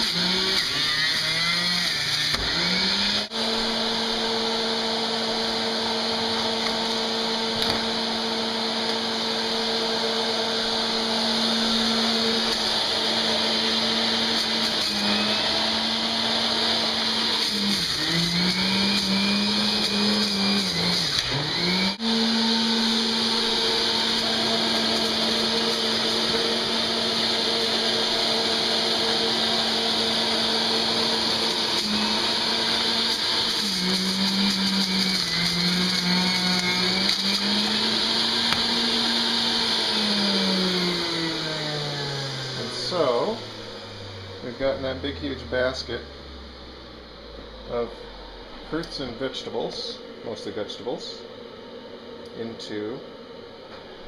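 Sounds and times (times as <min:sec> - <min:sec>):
juicer motor hum: 0:00.0 - 0:44.6.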